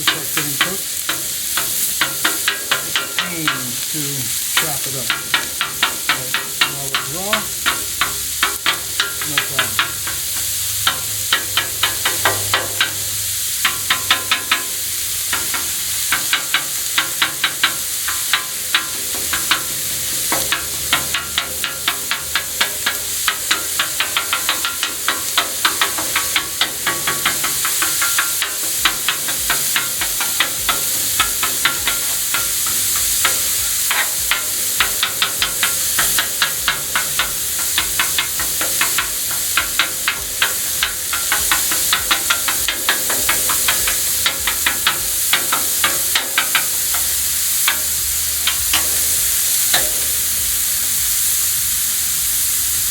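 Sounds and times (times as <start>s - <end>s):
metal spatulas scraping and clacking: 0.0s - 14.7s, 15.3s - 49.1s
sausage sizzling on a griddle: 0.0s - 52.9s.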